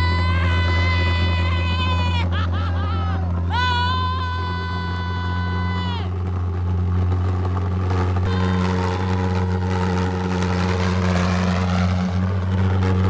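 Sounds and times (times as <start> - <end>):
pulse jet engine drone: 0.0 - 13.0.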